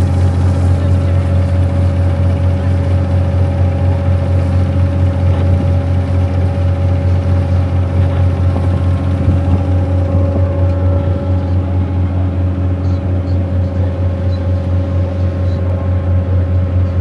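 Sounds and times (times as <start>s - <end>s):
boat engine low hum: 0.0s - 17.0s
high-pitched engine whine: 0.0s - 17.0s.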